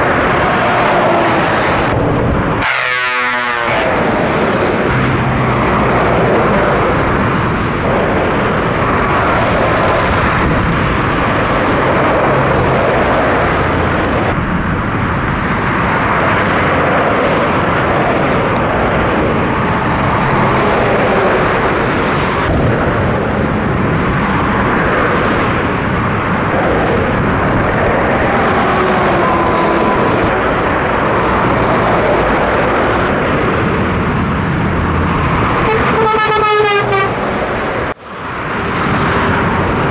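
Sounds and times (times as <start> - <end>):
heavy motorway traffic: 0.0 - 39.9.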